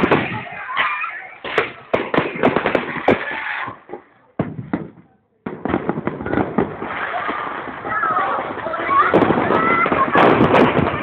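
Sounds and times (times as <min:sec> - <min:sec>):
crowd voices: 0:00.0 - 0:02.4, 0:03.3 - 0:11.0
fireworks bangs and crackles: 0:00.0 - 0:11.0.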